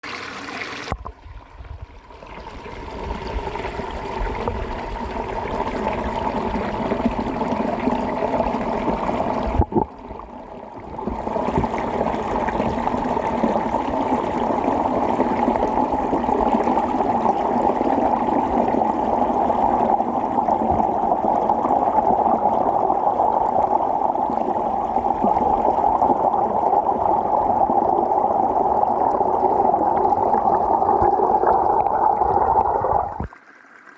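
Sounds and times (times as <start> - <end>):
underwater water rushing: 0.0 - 33.9.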